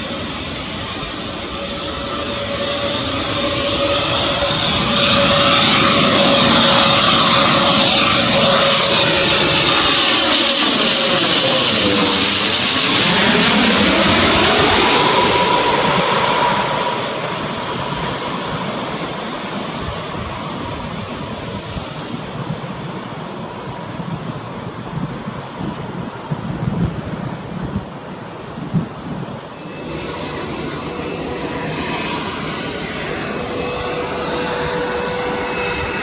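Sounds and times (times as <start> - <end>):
turboprop airliner passing overhead: 0.0 - 36.0.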